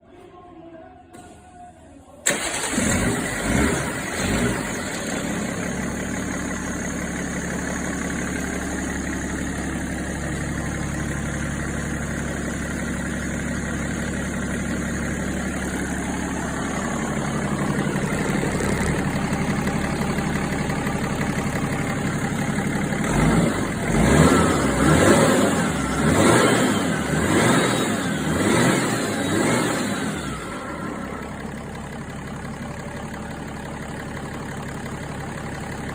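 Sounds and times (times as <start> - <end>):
diesel engine idling and revving: 2.3 - 35.9.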